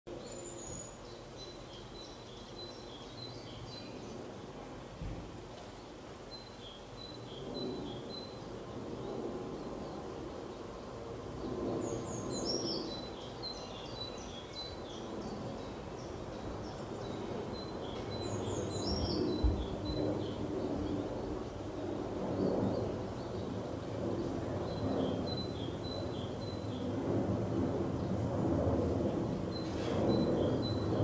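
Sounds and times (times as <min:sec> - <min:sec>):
small birds chirping: 0:00.1 - 0:31.0.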